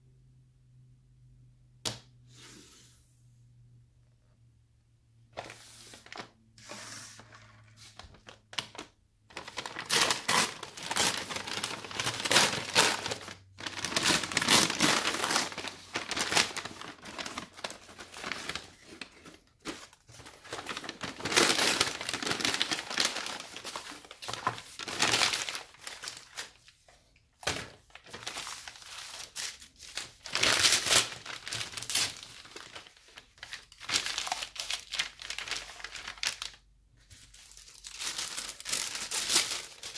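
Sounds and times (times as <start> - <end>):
paper bag crinkling and tearing: 5.4 - 26.7, 27.4 - 39.9.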